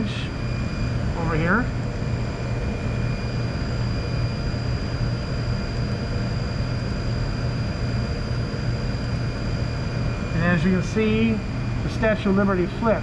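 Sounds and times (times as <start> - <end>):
high-pitched whine: 0.0 - 13.0
mechanical hum: 0.0 - 13.0.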